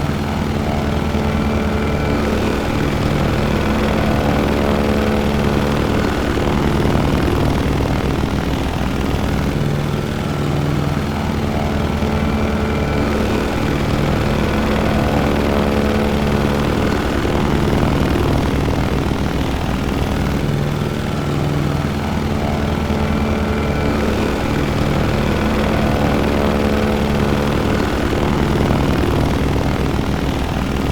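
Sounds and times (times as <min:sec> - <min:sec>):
propeller airplane engine droning: 0:00.0 - 0:30.9.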